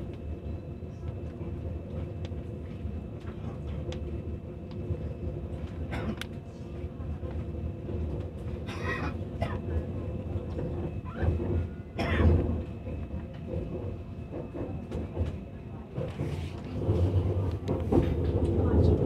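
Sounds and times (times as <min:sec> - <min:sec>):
train cabin low rumble and hum: 0:00.0 - 0:19.0.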